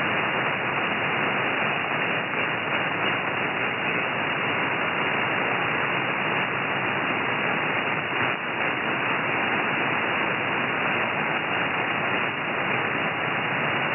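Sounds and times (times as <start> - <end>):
radio static hiss: 0.0 - 13.9.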